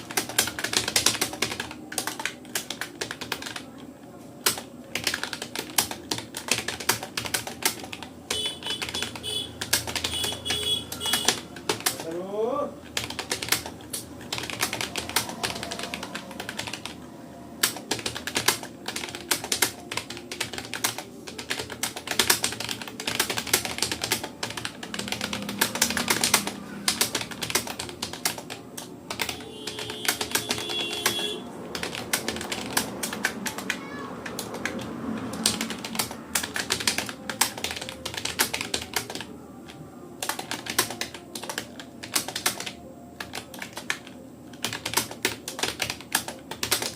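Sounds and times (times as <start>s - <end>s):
fast typing on keyboard: 0.0s - 12.2s, 12.8s - 46.9s.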